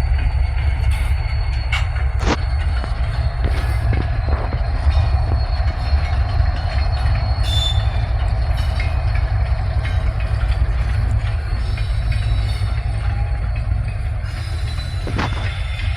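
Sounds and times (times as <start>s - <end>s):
freight train rumbling past: 0.0s - 15.9s
high wheel squeal: 0.0s - 15.9s.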